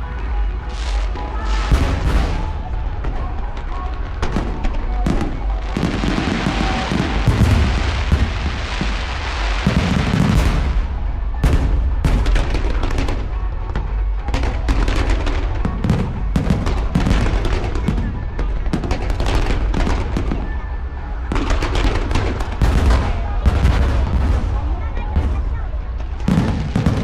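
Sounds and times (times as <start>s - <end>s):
deep fireworks booms: 0.0s - 27.0s
fireworks bangs and crackles: 0.0s - 27.0s.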